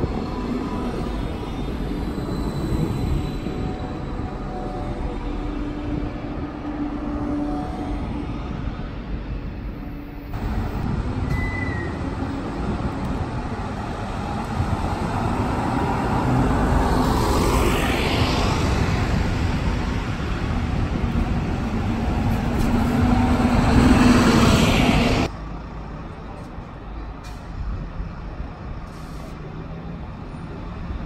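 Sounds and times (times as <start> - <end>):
town traffic: 0.0 - 31.0.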